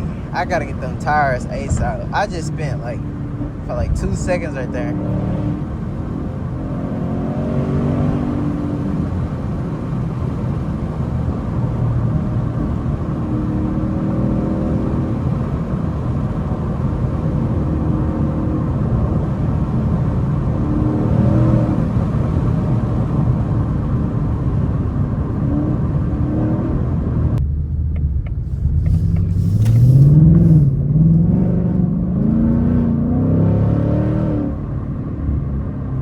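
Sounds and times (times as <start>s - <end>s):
car engine running: 0.0s - 32.8s
road noise: 0.0s - 36.0s.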